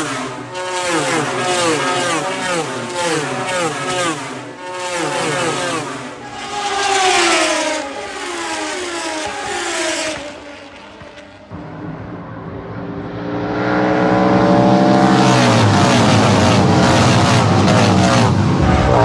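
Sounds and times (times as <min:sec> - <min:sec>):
motorcycle passing by: 0:00.0 - 0:19.0
motorcycles racing: 0:00.0 - 0:19.0.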